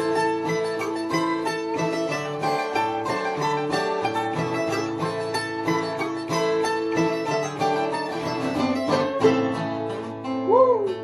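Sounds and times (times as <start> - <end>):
fast-picked plucked strings: 0.0 - 11.0.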